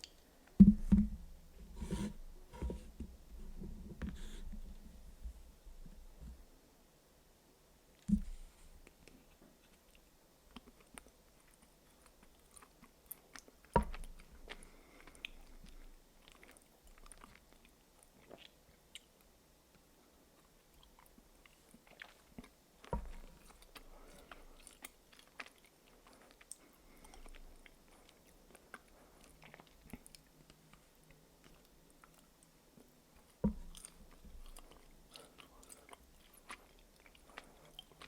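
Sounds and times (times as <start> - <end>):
soft chewing: 0.0 - 6.5, 7.9 - 38.0.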